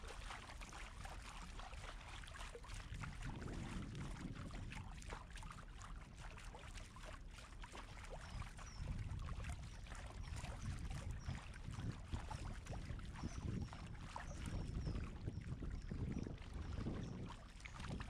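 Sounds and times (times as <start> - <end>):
paddle splashes and drips: 0.0 - 18.0
water lapping around kayak: 0.0 - 18.0
wind rumble on microphone: 2.6 - 7.0, 7.7 - 18.0.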